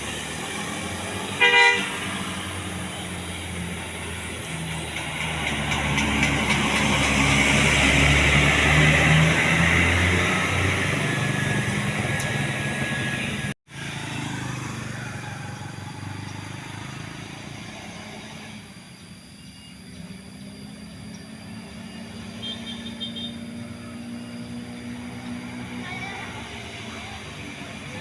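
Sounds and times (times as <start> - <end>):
heavy vehicle engine running: 0.0 - 28.0
road traffic noise: 0.0 - 28.0.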